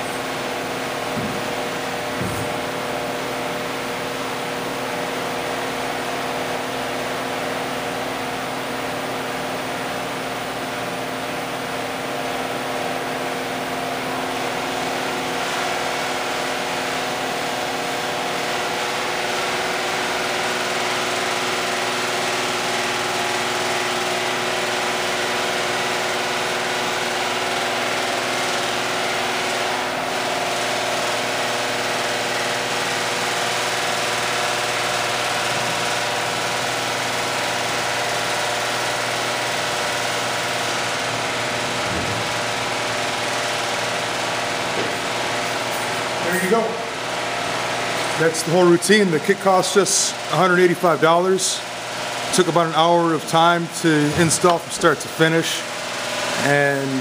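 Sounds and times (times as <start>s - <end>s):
diesel engine idling: 0.0s - 7.3s, 12.8s - 57.0s.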